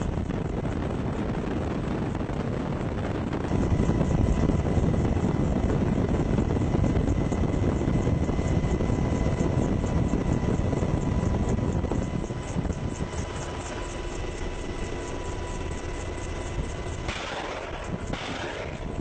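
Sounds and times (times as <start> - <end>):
helicopter rotor pulsing: 0.0 - 19.0.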